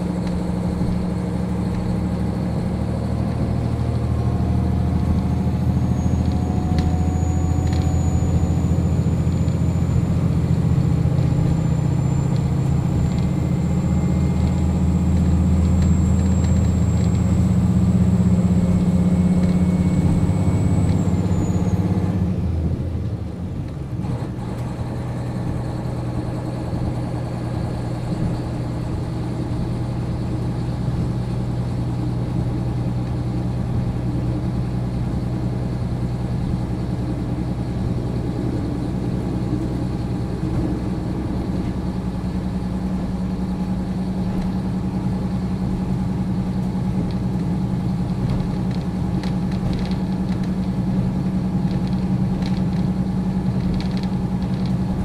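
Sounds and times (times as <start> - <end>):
diesel railcar engine idling: 0.0 - 55.0.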